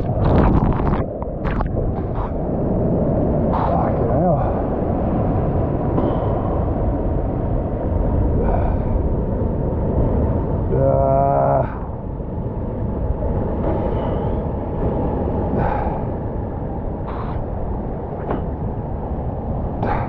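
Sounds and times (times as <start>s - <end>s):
ocean surf on rocks: 0.0s - 20.0s
wind: 0.0s - 20.0s.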